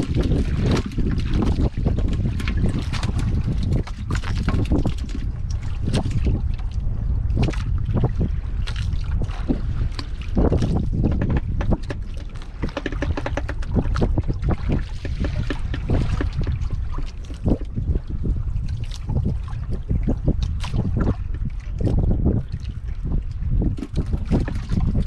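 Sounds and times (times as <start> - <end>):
water splashing against boat hull: 0.0 - 25.0
wind buffeting microphone: 0.0 - 25.0.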